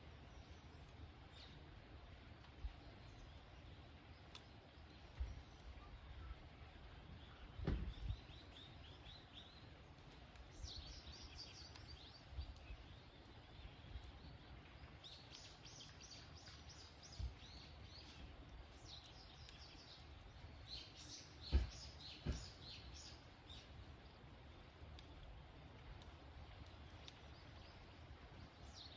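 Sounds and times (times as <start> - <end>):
campfire crackling and popping: 0.0 - 28.9.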